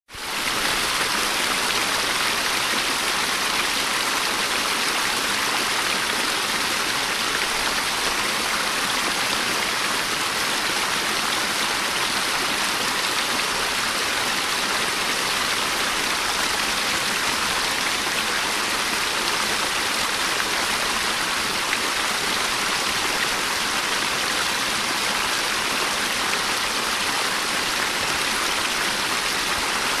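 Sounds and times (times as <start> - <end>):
small waterfall rushing: 0.1 - 30.0.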